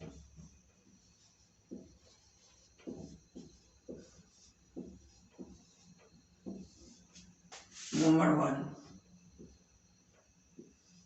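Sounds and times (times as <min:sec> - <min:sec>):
pen strokes on paper: 0:00.0 - 0:09.0, 0:10.6 - 0:11.0.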